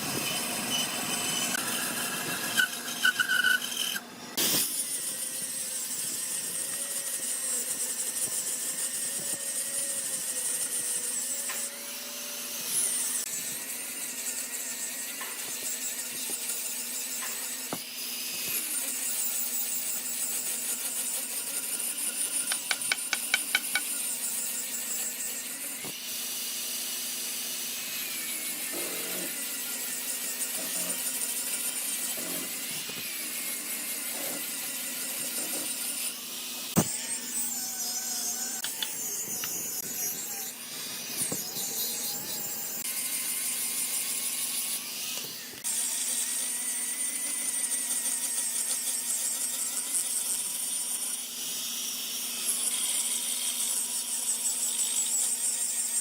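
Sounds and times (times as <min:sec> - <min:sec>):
woodworking machinery whine: 0:00.0 - 0:56.0.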